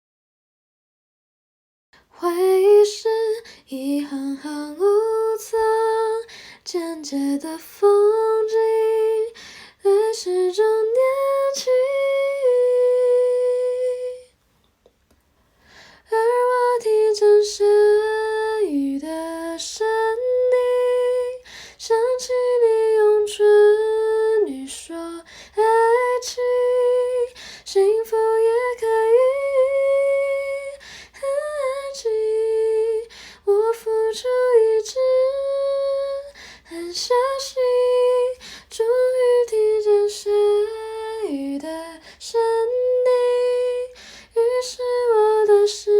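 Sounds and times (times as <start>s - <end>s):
woman singing a pop ballad: 2.0s - 14.3s, 16.0s - 45.9s.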